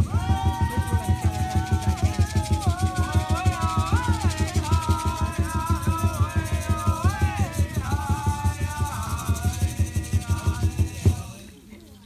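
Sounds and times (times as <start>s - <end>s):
fast steady drumbeat: 0.0s - 11.6s
person chanting a melody: 0.0s - 11.6s.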